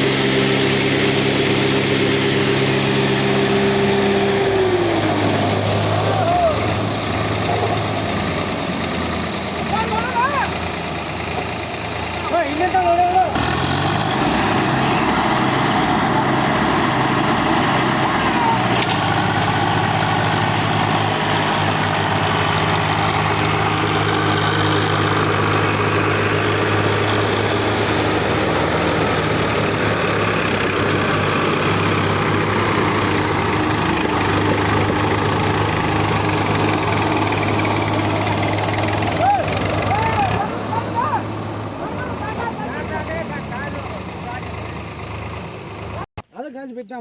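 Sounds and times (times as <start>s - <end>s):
tractor diesel engine running: 0.0s - 46.3s.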